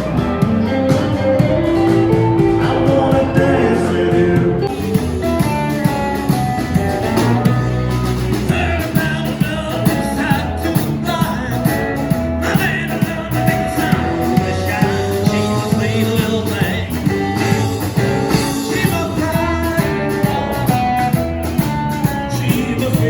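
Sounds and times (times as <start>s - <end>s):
guitar: 0.0s - 23.0s
steady drum beat: 0.0s - 23.0s
person singing: 1.4s - 5.6s, 7.1s - 21.2s, 22.0s - 23.0s.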